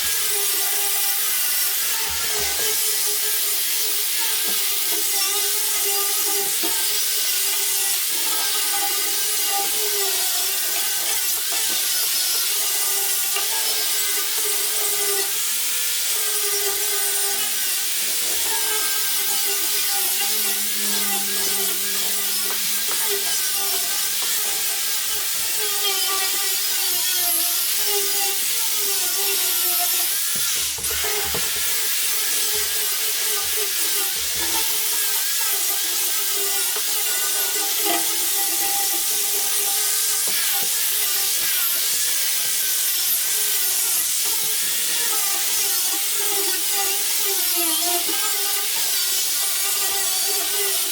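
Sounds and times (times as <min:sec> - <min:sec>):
power tool whining: 0:00.0 - 0:50.9.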